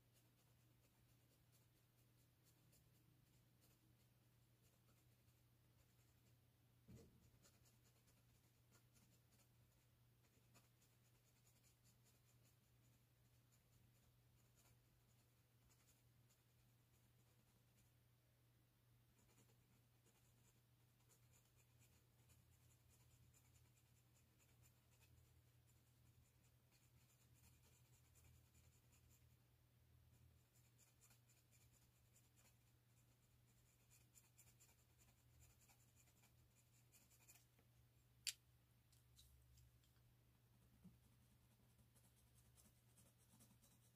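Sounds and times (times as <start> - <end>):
pencil scratching on paper: 0.0 - 18.0, 19.1 - 29.4, 30.0 - 37.5, 40.8 - 43.9
faint low hum: 0.0 - 43.9.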